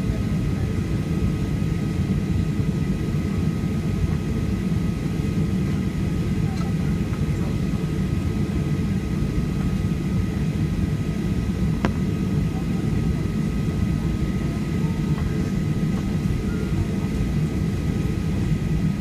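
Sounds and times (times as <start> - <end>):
aircraft cabin rumble: 0.0 - 19.0
faint steady whine: 0.0 - 19.0.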